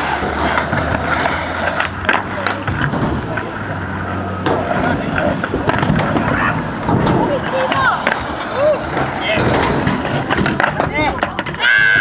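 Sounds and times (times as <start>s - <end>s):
background voices: 0.0s - 11.6s
skateboard clacks: 0.0s - 12.0s
skateboard wheels rolling on concrete: 0.0s - 12.0s.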